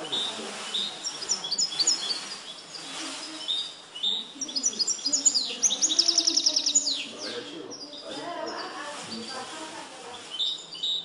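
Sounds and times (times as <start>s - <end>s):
goldfinch singing: 0.0s - 11.0s.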